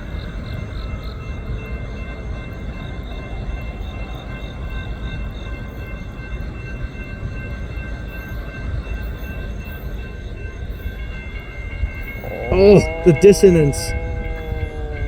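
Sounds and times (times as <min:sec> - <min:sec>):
freight train rumble: 0:00.0 - 0:15.0
railroad crossing bells ringing: 0:00.0 - 0:15.0.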